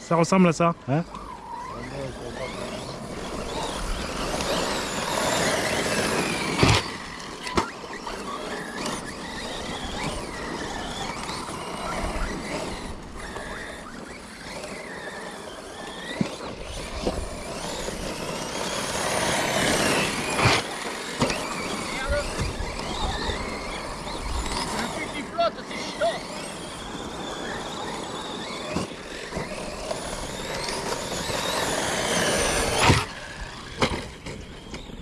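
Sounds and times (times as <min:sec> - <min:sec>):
electric motors whining: 0:00.0 - 0:35.0.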